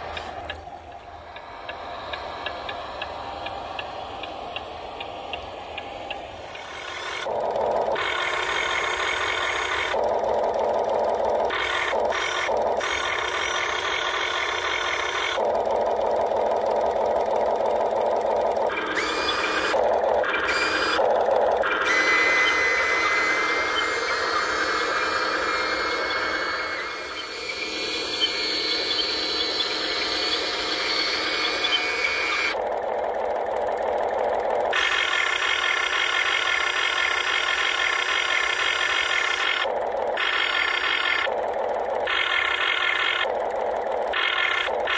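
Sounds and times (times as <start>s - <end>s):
model excavator motor whine: 0.0s - 44.9s.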